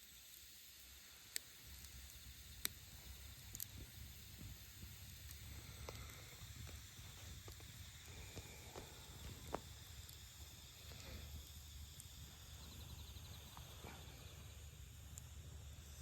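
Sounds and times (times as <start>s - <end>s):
campfire crackling and popping: 0.2s - 16.0s
low steady rumble: 1.4s - 16.0s.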